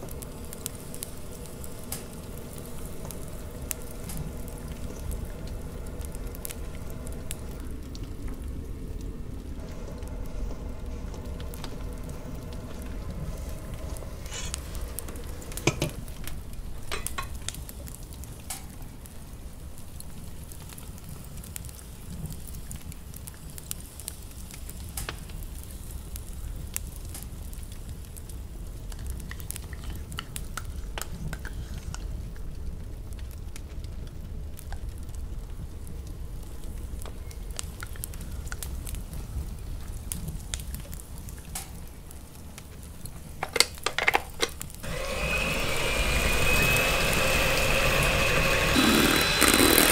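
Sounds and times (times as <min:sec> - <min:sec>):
crackling sizzling: 0:00.0 - 0:49.9.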